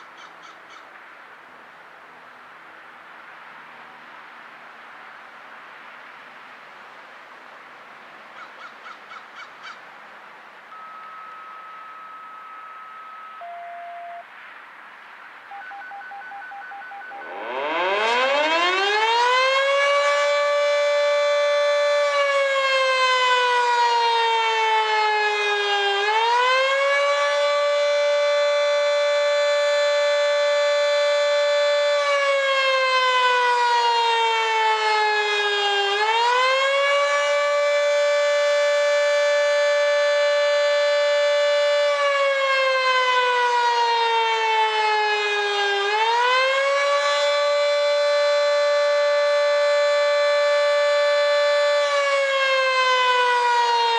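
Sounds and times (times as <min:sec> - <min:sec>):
outdoor warning siren wailing: 0:10.7 - 0:53.9.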